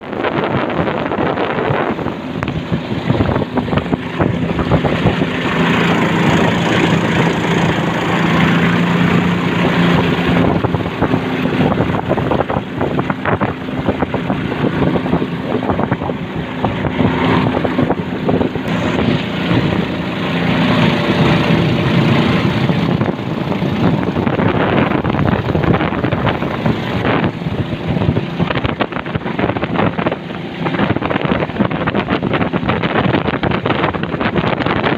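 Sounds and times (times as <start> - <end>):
motorboat engine humming: 0.0 - 34.9
wind noise on microphone: 0.0 - 34.9.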